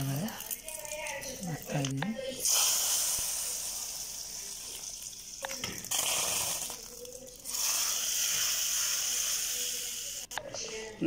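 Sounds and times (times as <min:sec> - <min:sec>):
hot oil sizzling: 0:00.0 - 0:10.3.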